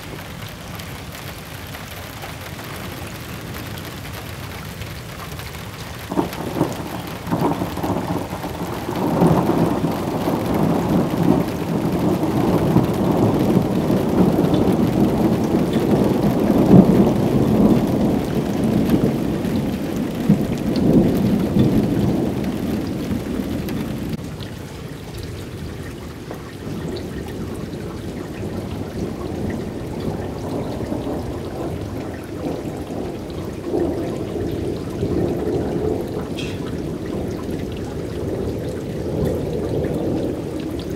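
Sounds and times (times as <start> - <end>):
steady rain: 0.0 - 40.9
thunder rolling: 6.0 - 24.2, 26.2 - 40.9.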